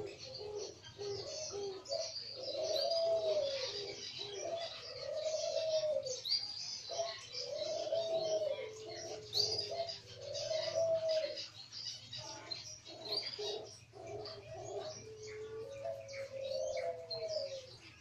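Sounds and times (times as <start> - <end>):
birds chirping: 0.0 - 18.0
doves cooing: 0.0 - 18.0.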